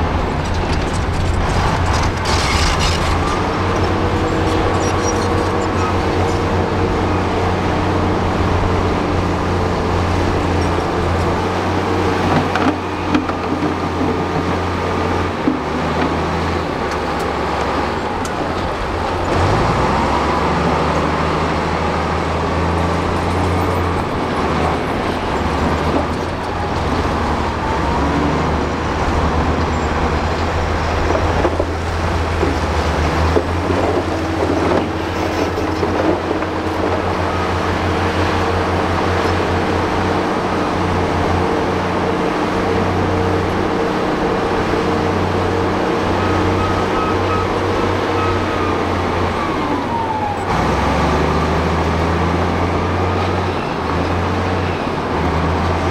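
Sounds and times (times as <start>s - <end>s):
heavy diesel engines running: 0.0s - 55.9s
engine revving up: 0.7s - 12.9s, 15.8s - 55.9s.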